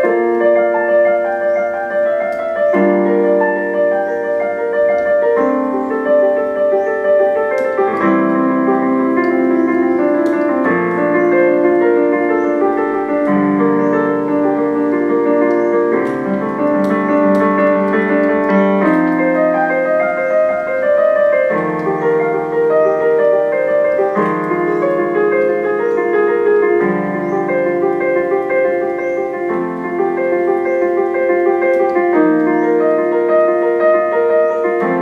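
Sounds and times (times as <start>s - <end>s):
piano playing sustained chords: 0.0s - 35.0s.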